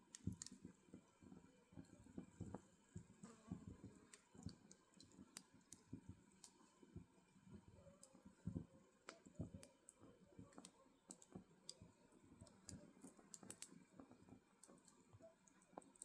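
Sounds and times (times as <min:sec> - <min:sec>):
firewood crackling and popping: 0:00.0 - 0:01.1, 0:01.8 - 0:06.6, 0:08.0 - 0:16.0.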